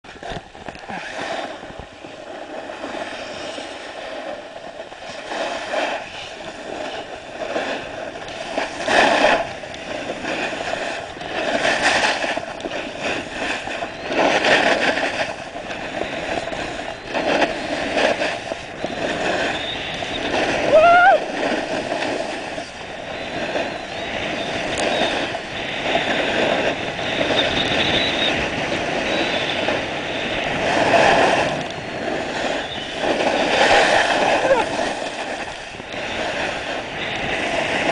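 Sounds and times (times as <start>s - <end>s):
skis scraping on packed snow: 0.1s - 37.9s.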